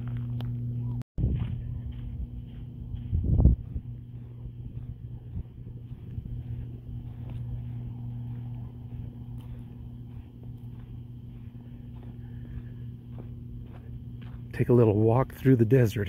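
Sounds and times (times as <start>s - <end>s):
electrical substation buzzing: 0.0s - 16.0s.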